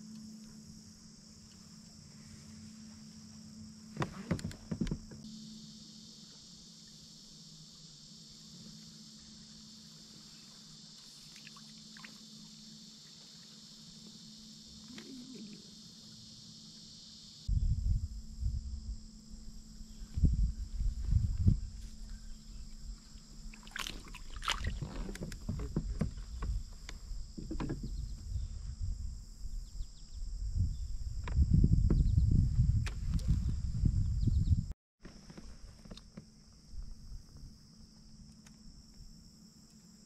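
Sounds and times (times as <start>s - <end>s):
lower buzz: 0.0s - 34.7s
insects buzzing: 0.0s - 40.0s.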